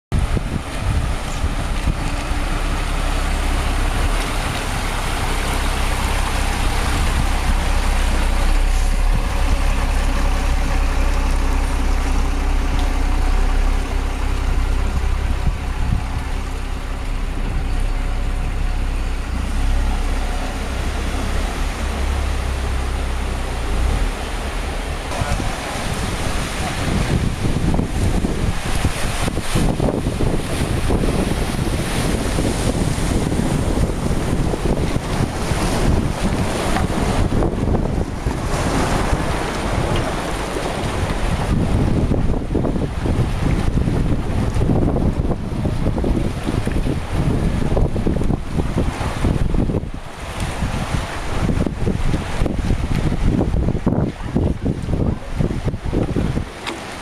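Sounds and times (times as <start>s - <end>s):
vehicle engine humming: 0.1s - 57.0s
wind buffeting microphone: 0.1s - 57.0s.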